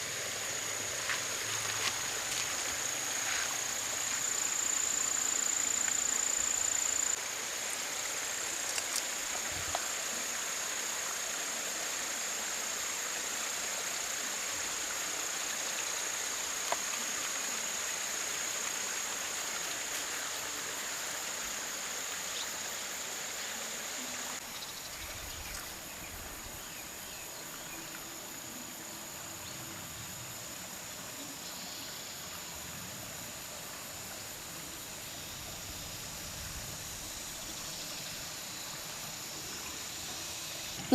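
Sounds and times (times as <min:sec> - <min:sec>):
faint outdoor hiss: 0:00.0 - 0:40.9
insects droning: 0:00.0 - 0:40.9.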